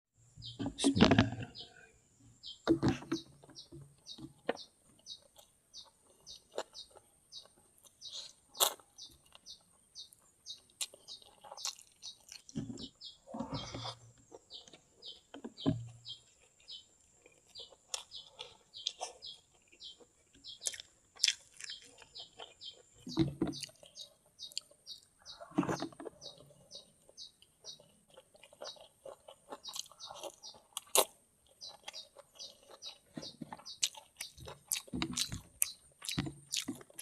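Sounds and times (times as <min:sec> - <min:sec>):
small bird chirping: 0:00.4 - 0:37.0
soft eating noises: 0:00.4 - 0:37.0.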